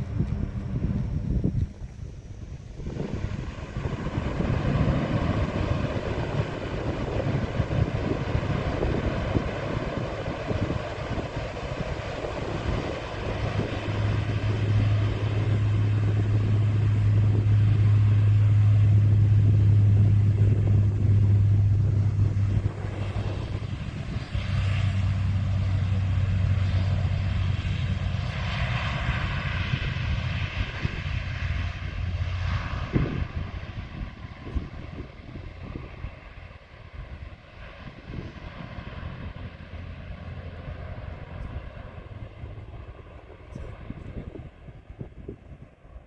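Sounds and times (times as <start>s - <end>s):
aircraft engines droning: 0.0s - 46.0s.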